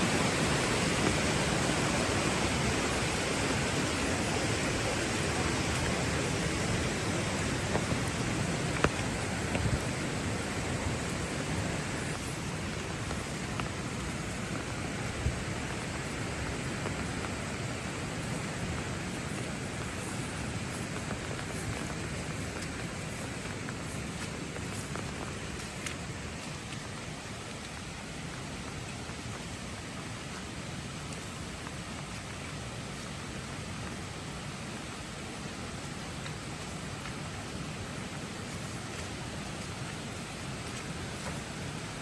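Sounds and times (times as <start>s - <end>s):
rain on hard surfaces: 0.0s - 42.0s.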